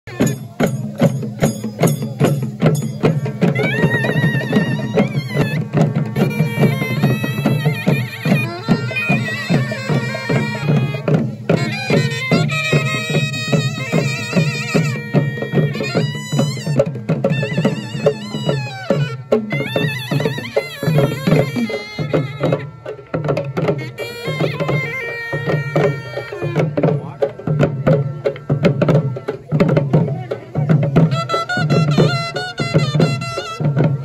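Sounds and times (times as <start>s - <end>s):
drums playing fast rhythmic beat: 0.0s - 34.0s
reed wind instrument melody: 0.1s - 34.0s.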